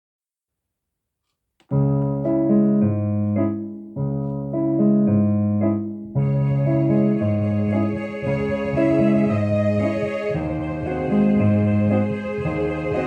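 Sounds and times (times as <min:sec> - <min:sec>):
electronic keyboard violin melody: 0:01.7 - 0:13.0.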